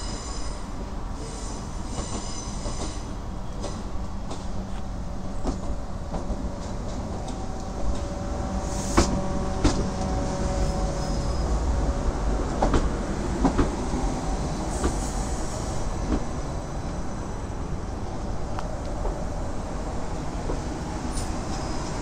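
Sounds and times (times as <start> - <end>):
train low rumble: 0.0 - 22.0.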